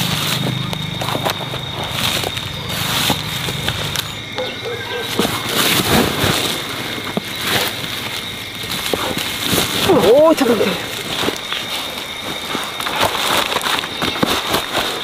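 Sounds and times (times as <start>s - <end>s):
plastic sack rustling: 0.0s - 15.0s.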